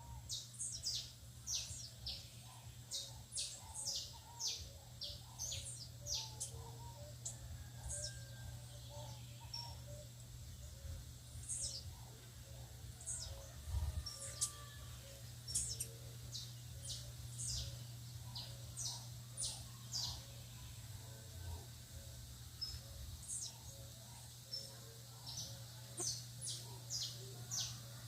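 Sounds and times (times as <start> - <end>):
steady low hum: 0.0 - 28.0
wild birds chirping: 0.0 - 28.0.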